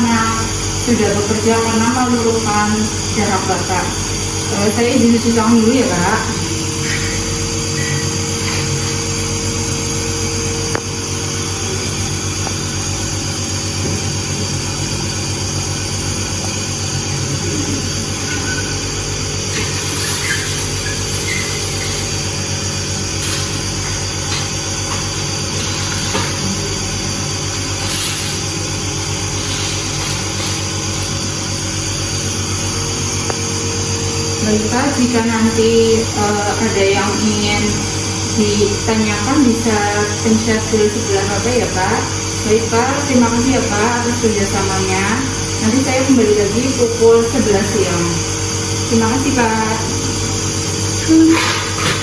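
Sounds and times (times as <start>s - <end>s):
nebulizer motor humming: 0.0s - 52.0s.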